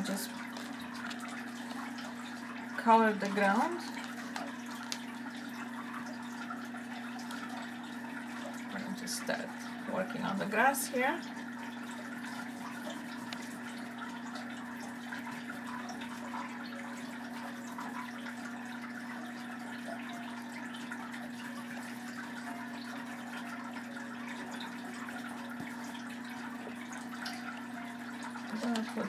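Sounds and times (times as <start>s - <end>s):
low background hum and hiss: 0.0s - 29.0s.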